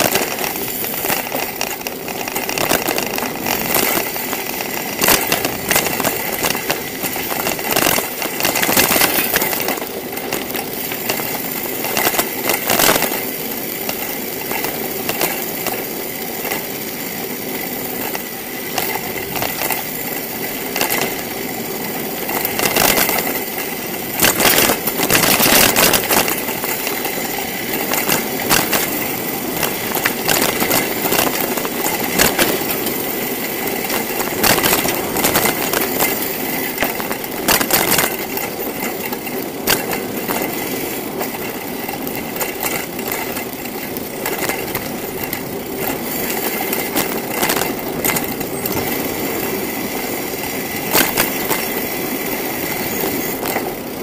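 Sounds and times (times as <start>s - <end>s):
bicycle tyres rolling on pavement: 0.0s - 54.0s
bike rattling: 0.0s - 54.0s.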